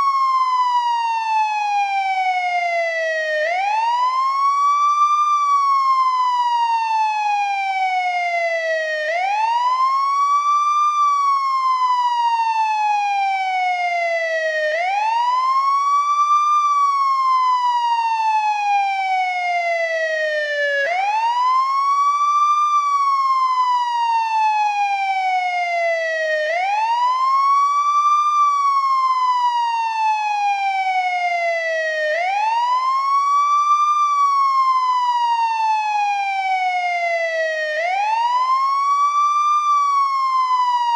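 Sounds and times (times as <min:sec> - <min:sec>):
ambulance siren wailing: 0:00.0 - 0:40.9.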